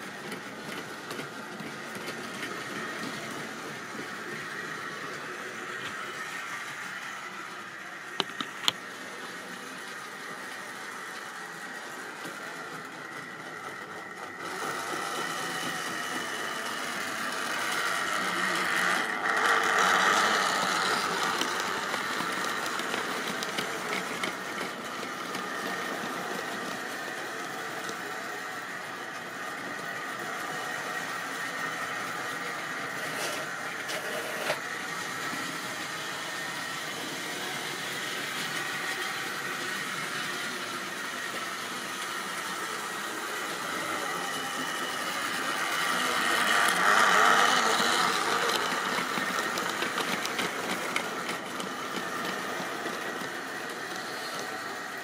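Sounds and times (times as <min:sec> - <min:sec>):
model train motor whine: 0:00.0 - 0:55.0.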